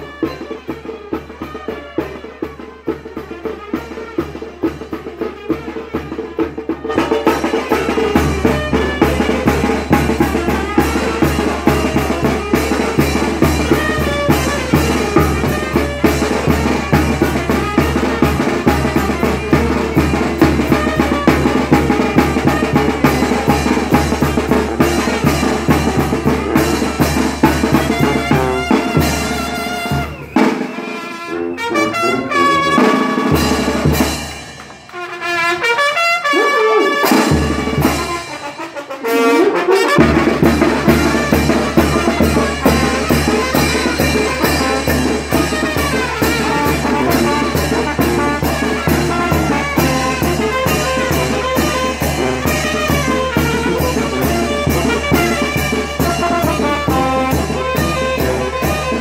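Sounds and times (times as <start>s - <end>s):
brass playing dance music: 0.0s - 59.0s
steady drum beat: 0.0s - 59.0s.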